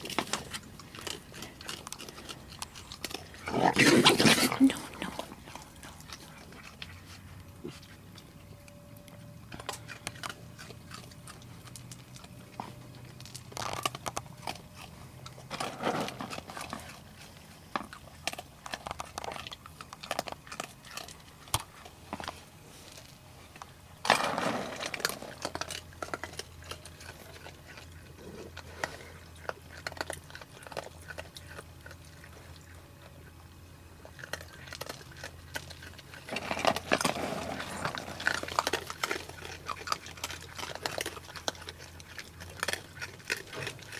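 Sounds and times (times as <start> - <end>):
raccoons crunching and chewing: 0.0 - 43.9.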